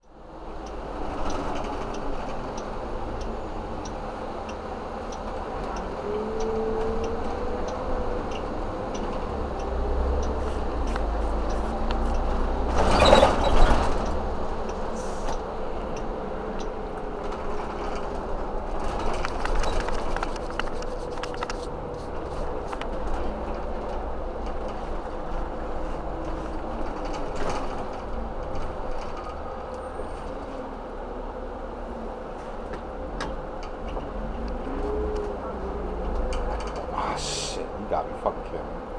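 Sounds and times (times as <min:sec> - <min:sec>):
vehicle low rumble: 0:00.0 - 0:38.9.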